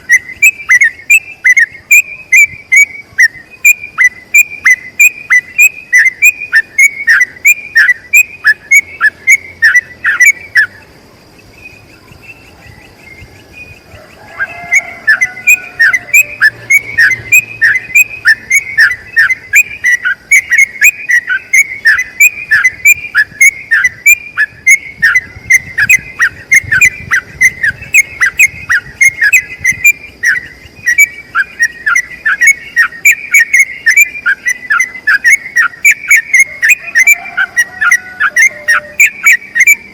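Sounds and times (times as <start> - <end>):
bird singing whistled notes: 0.0 - 39.9
faint high whine: 0.0 - 39.9.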